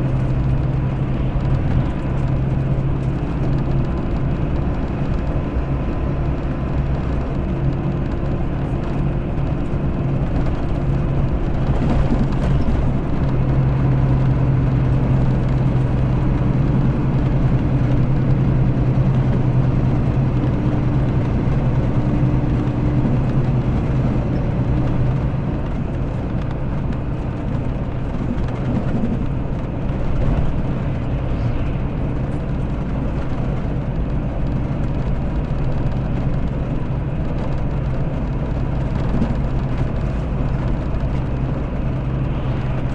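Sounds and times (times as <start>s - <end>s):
diesel bus engine running: 0.0s - 42.9s.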